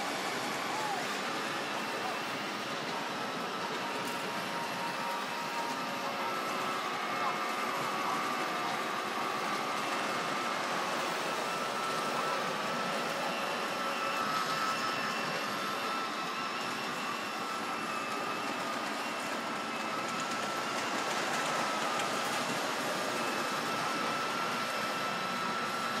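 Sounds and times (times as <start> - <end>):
model train whirring: 0.0 - 26.0.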